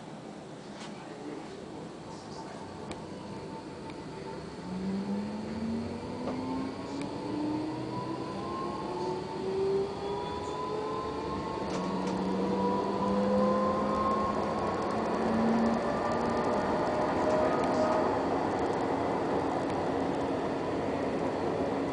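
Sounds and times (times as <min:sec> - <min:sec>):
tram motors whining: 0:01.8 - 0:21.9.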